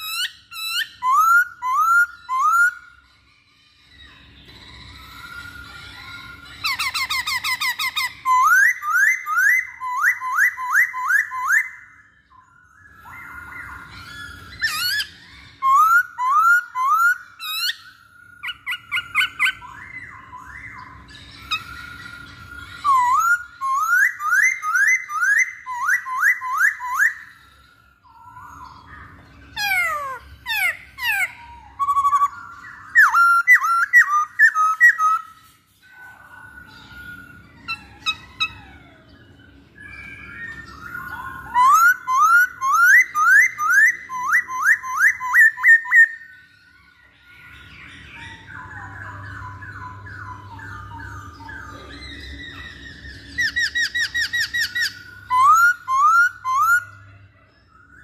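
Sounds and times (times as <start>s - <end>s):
bird singing whistled notes: 0.0s - 58.0s
bird chattering: 3.9s - 11.9s, 12.9s - 27.4s, 28.0s - 46.3s, 47.9s - 57.0s.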